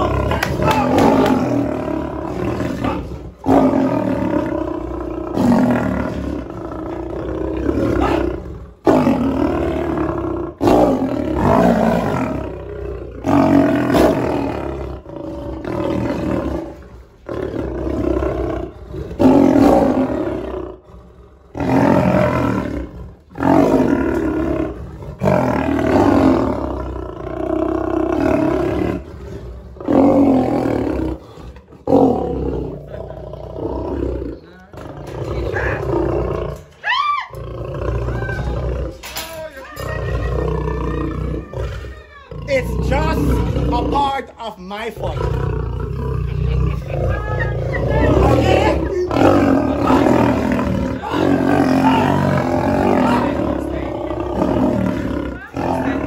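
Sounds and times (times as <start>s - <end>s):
lions snarling and roaring: 0.0s - 56.0s.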